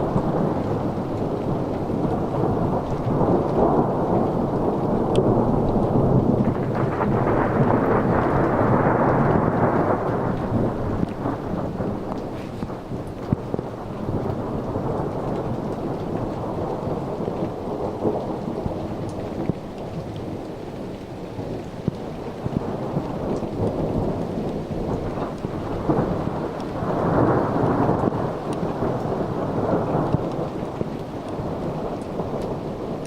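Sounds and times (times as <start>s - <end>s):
raindrops ticking: 0.0s - 33.0s
steady rain: 0.0s - 33.0s
thunder rumbling: 0.0s - 33.0s.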